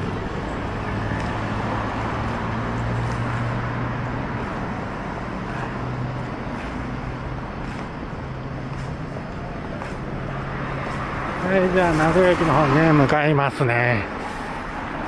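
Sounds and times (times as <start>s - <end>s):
rumble of cars: 0.0s - 15.0s.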